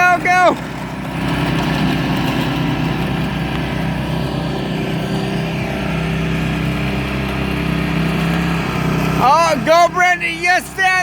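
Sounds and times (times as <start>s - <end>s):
lawn mower engines droning: 0.0s - 11.0s.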